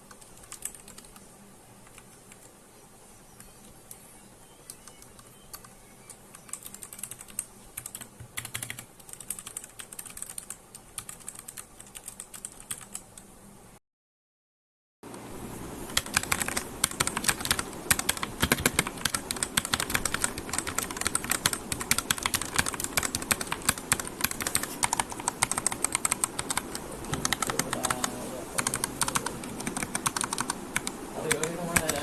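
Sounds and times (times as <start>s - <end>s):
mechanical keyboard typing: 0.0s - 1.2s, 4.6s - 13.2s, 15.9s - 32.0s.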